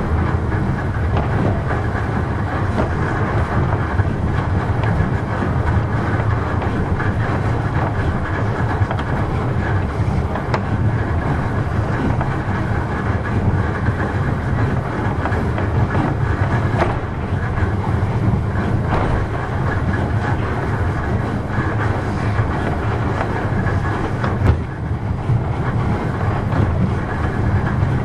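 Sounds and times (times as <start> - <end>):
wheels rumbling on rails: 0.0 - 28.0.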